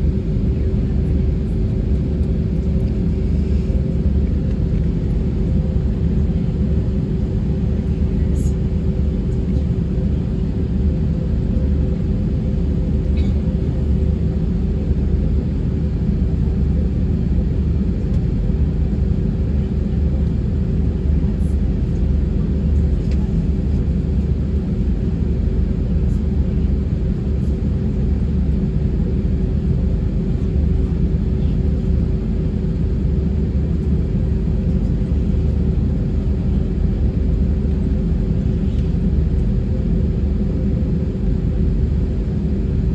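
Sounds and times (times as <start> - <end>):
airplane cabin engine roar: 0.0 - 42.9.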